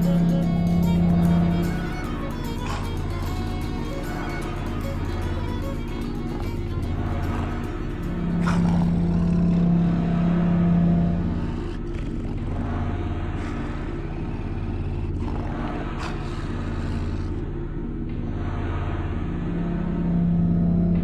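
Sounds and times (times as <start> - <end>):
low droning music: 0.0 - 21.0
steady low hum: 0.0 - 21.0.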